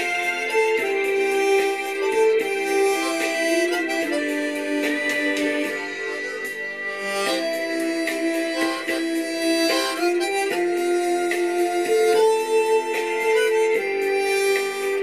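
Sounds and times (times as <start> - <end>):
harmonica melody: 0.0 - 15.0.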